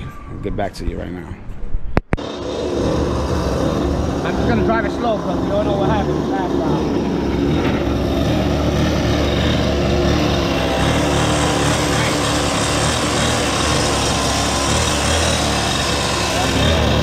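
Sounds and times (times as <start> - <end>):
small gasoline engine running: 2.2 - 17.0.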